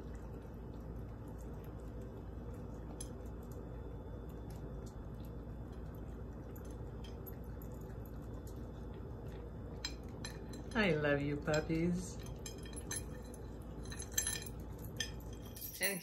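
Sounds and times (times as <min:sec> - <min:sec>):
dogs chewing and lapping: 0:00.0 - 0:15.9
low steady hum: 0:00.0 - 0:16.0.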